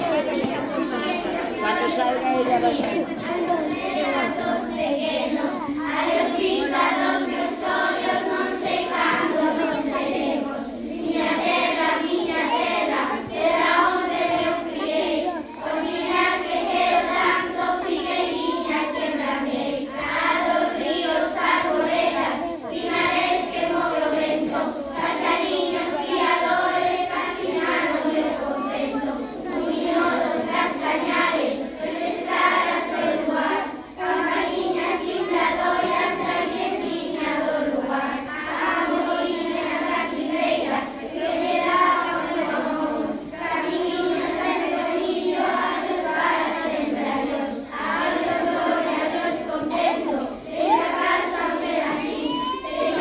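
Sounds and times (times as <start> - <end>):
children singing together: 0.0 - 53.0.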